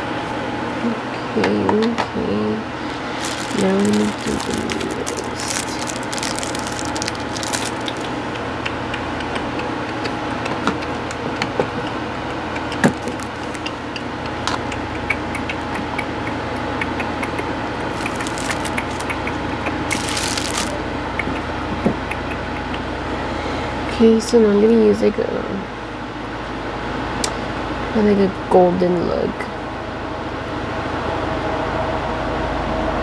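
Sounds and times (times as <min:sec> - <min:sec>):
background hiss and hum: 0:00.0 - 0:33.0.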